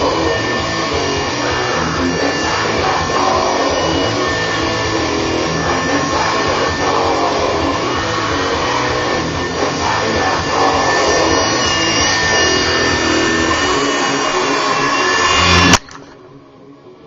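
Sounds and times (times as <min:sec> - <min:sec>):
toy helicopter motor whine: 0:00.0 - 0:16.1.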